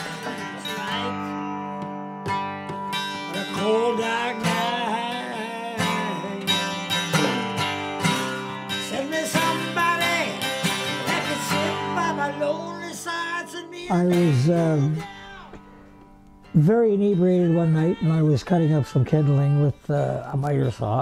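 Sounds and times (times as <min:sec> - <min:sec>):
blues acoustic guitar: 0:00.0 - 0:21.0.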